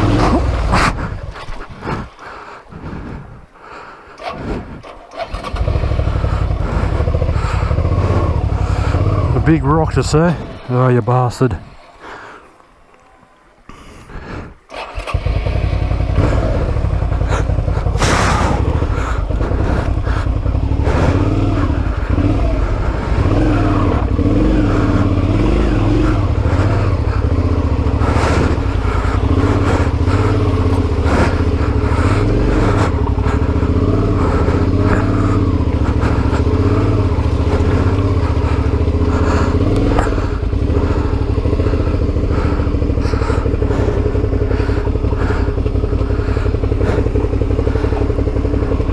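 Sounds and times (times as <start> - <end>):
motorcycle engine revving: 0.0 - 3.4, 4.2 - 13.1, 14.7 - 48.9.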